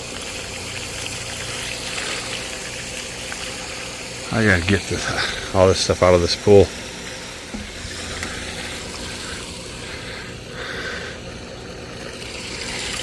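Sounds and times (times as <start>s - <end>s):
pump motor humming: 0.0s - 13.0s
water rushing: 0.0s - 13.0s.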